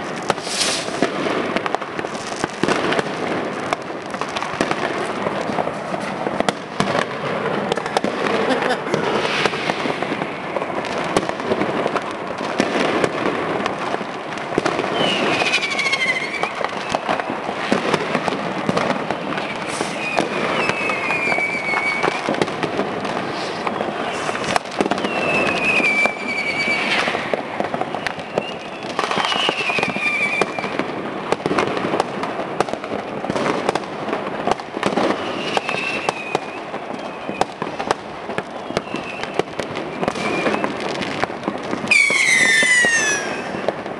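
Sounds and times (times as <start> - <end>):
fireworks and firecrackers banging: 0.0 - 43.9
whistling fireworks: 0.0 - 43.9.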